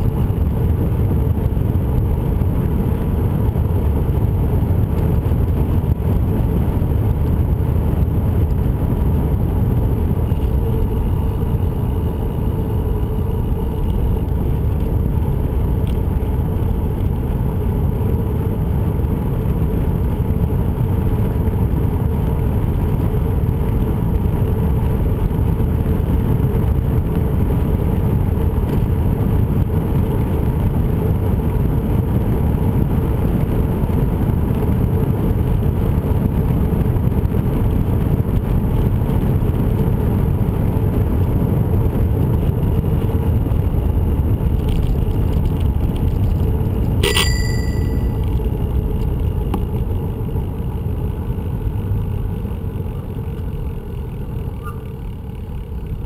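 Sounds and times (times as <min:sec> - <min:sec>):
rolling on paved trail: 0:00.0 - 0:56.0.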